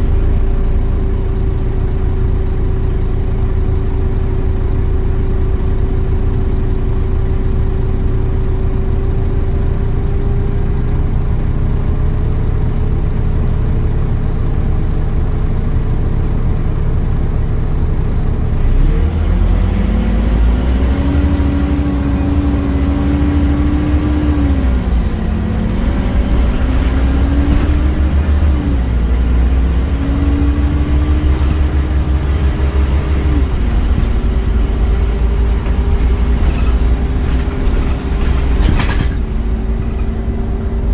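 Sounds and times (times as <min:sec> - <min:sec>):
bus engine idling and pulling away: 0:00.0 - 0:40.9.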